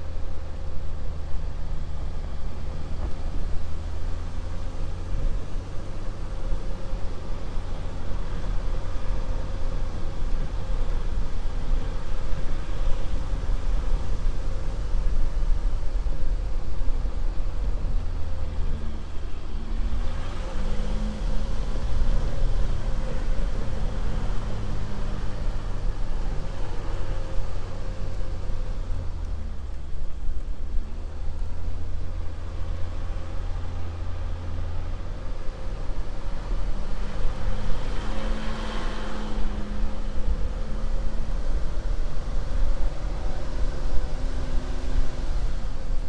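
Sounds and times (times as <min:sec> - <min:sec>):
tyre and road noise: 0:00.0 - 0:46.0.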